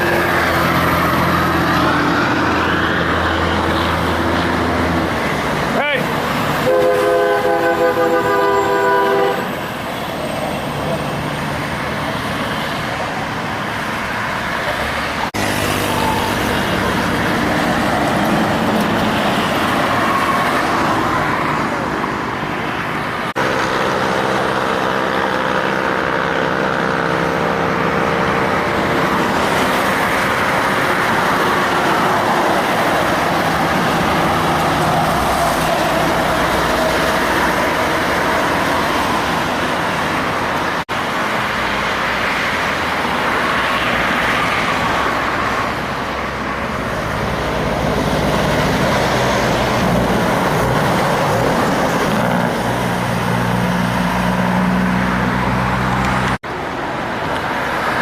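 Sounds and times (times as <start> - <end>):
heavy trucks passing: 0.0 - 58.0
road and traffic noise: 0.0 - 58.0.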